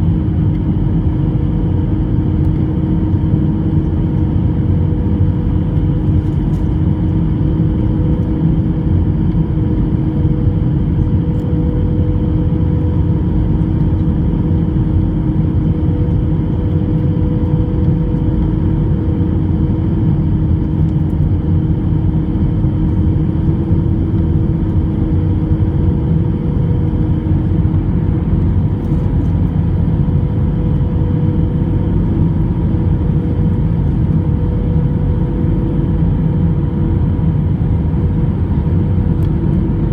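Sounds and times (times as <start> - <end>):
aircraft cabin engine drone: 0.0 - 39.9
constant hum: 0.0 - 39.9.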